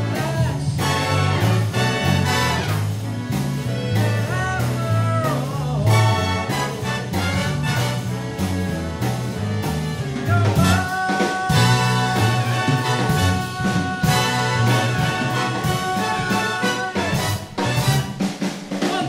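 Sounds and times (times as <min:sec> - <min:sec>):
swing band instrumental: 0:00.0 - 0:19.0.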